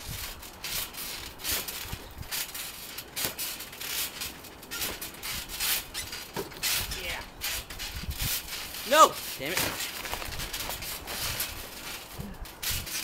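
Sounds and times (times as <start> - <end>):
trampoline springs creaking: 0.0 - 13.0.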